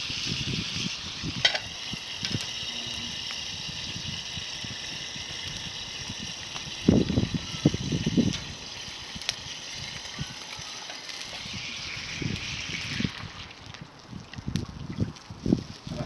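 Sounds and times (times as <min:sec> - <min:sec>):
sharp crack of fire: 0:00.0 - 0:16.0
wood fire hissing: 0:00.0 - 0:16.0.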